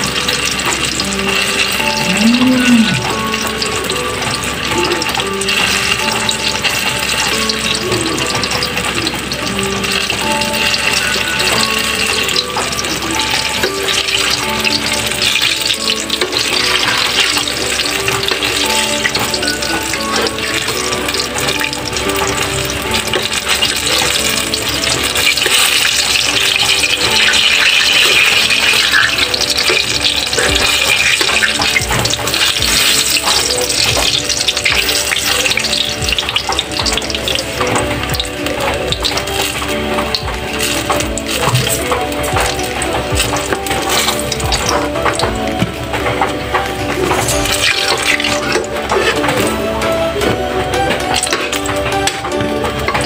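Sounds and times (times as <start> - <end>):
background music: 0.0 - 53.0
eggplant sizzling in hot oil: 0.0 - 53.0.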